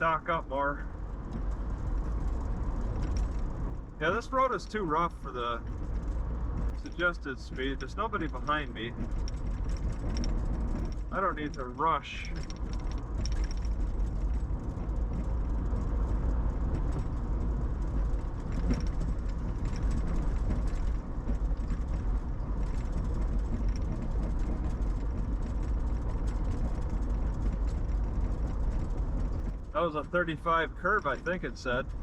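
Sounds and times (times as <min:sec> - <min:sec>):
car engine running: 0:00.0 - 0:32.0
tyres rumbling on rough road: 0:00.0 - 0:32.0.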